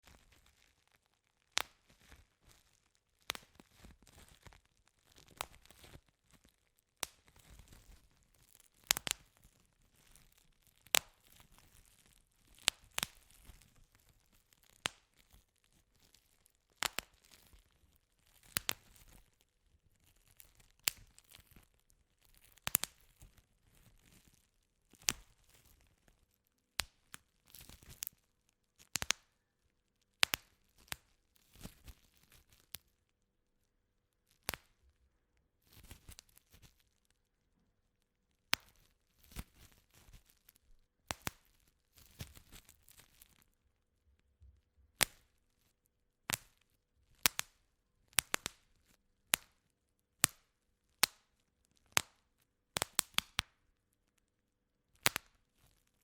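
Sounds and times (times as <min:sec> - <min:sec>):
bubble wrap popping: 0:00.0 - 0:29.5, 0:30.1 - 0:33.0, 0:34.3 - 0:34.9, 0:35.6 - 0:37.1, 0:38.4 - 0:43.5, 0:44.4 - 0:49.6, 0:50.2 - 0:53.6.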